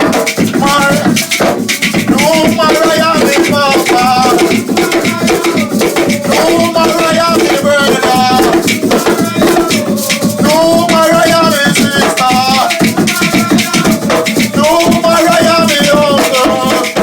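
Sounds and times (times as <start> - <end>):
group drumming: 0.0 - 17.0
voices singing a wavering chant: 0.0 - 17.0.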